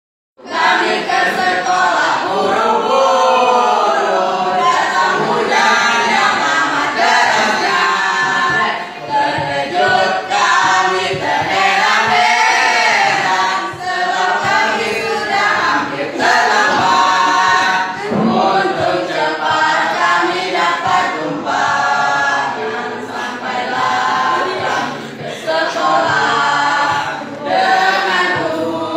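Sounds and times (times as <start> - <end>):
group singing without accompaniment: 0.4 - 28.9.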